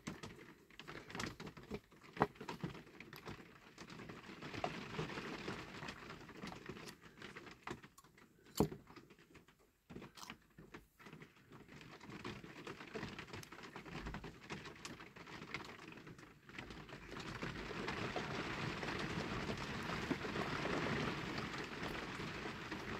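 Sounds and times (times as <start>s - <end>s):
fingers rubbing plastic: 0.0s - 22.9s.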